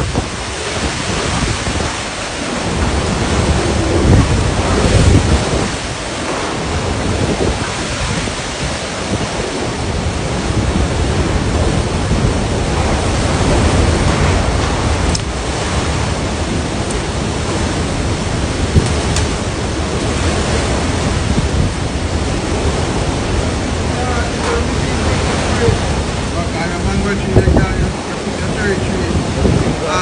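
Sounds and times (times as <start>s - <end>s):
strong wind gusts buffeting microphone: 0.0s - 30.0s.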